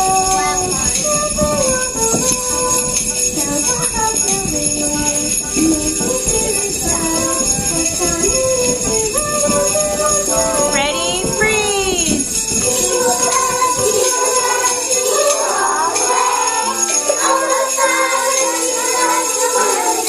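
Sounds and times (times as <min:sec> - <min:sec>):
instrumental music: 0:00.0 - 0:20.0
sleigh bells jingling: 0:00.0 - 0:20.0.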